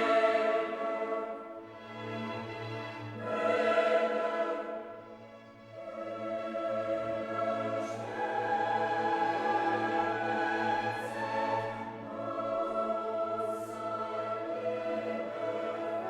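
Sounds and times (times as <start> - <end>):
choir singing with orchestra: 0.0 - 16.0.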